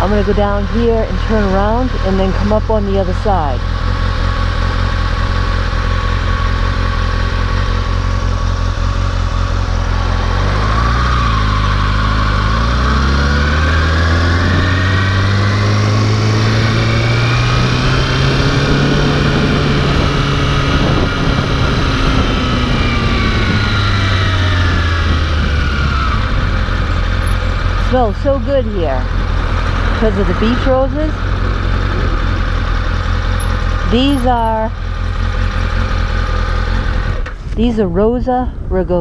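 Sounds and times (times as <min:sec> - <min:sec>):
motorcycle engine idling and pulling away: 0:00.0 - 0:37.5.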